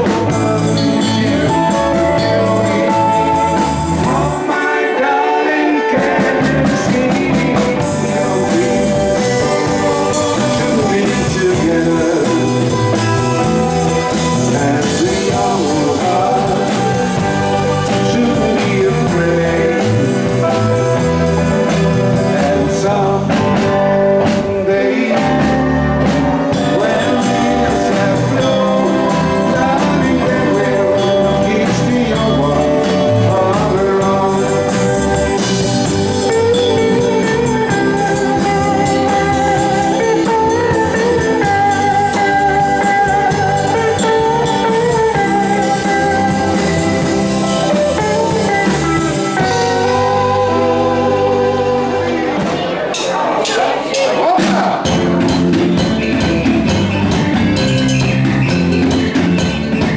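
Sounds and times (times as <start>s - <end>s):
man singing: 0.0s - 55.3s
live rock band playing: 0.0s - 59.9s.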